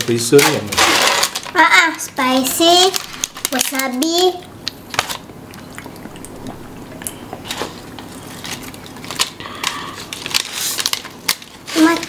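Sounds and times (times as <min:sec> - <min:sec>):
people eating snacks crunching: 0:00.3 - 0:12.0.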